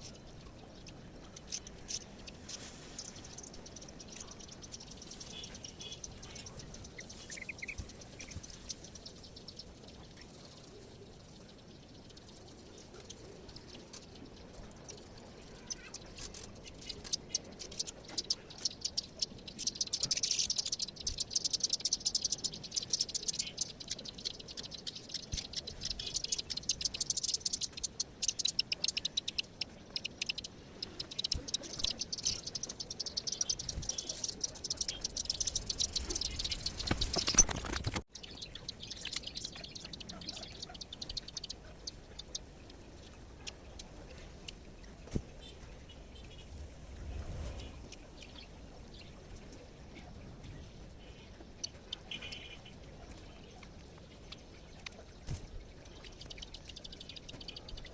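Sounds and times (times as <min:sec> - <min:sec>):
small birds chirping and twittering: 0:00.0 - 0:57.9.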